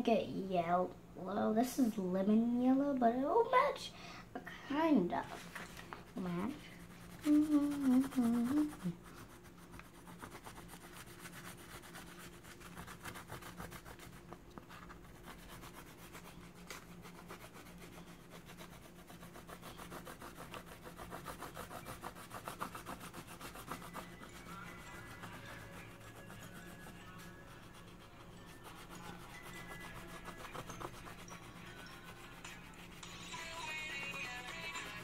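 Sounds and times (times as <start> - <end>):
oil pastel scratching on paper: 5.2 - 35.0.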